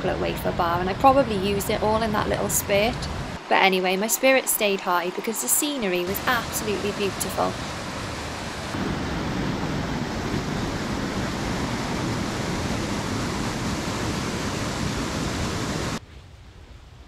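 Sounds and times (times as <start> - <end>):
white-water torrent roaring: 0.2 - 16.0
outdoor hiss: 0.7 - 17.0.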